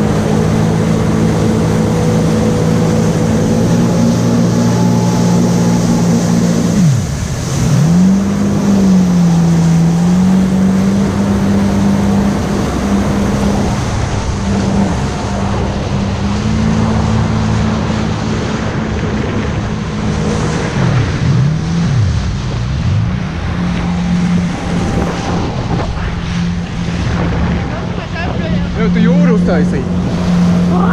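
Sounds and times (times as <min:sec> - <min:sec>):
jet ski engine running: 0:00.0 - 0:30.9
water rushing along hull: 0:00.0 - 0:30.9.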